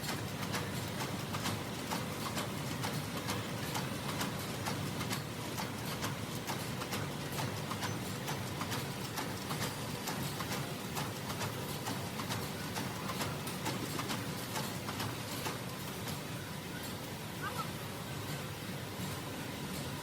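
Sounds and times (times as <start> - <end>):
sharp machine clicks: 0.0 - 17.2
wire mesh machine running: 0.0 - 20.0.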